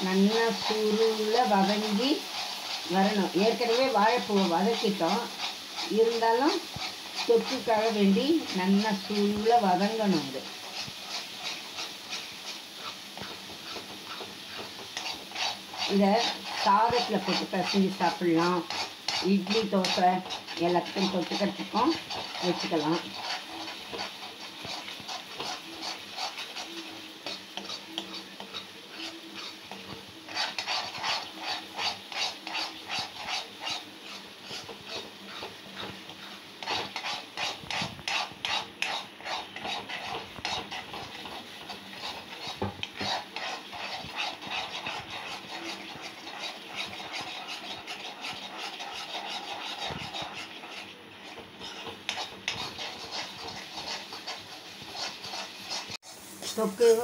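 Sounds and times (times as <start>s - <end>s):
spatula scraping paste in iron pan: 0.0s - 56.6s.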